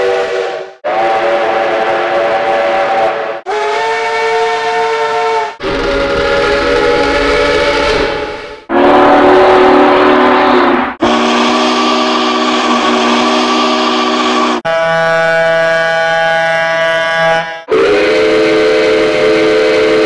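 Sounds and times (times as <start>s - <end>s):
steam locomotive whistle blasts: 0.0s - 20.0s.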